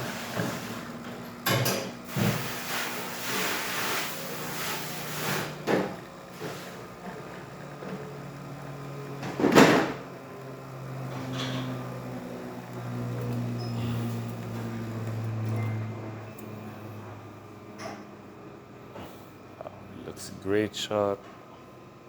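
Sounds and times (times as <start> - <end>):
espresso machine humming: 0.0 - 22.0.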